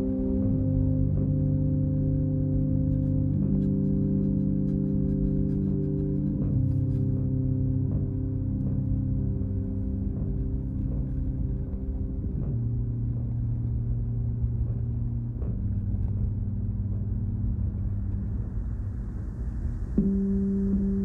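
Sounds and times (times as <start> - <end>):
steady low tones: 0.0 - 21.0.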